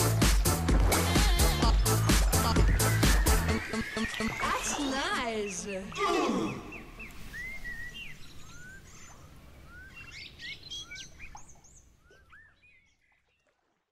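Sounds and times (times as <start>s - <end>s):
birds chirping: 1.1s - 13.9s.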